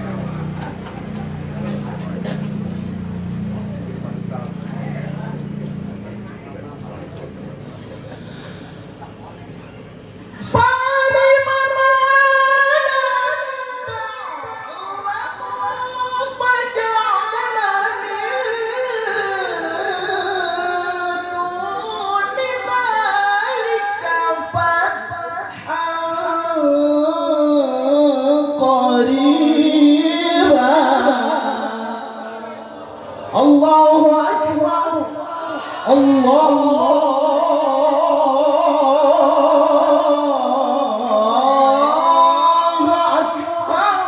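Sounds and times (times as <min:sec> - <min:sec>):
person reciting through a sound system: 0:00.0 - 0:44.0.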